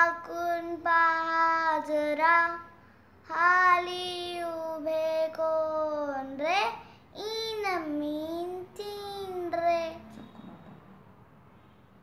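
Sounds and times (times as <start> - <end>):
girl singing unaccompanied: 0.0 - 10.3.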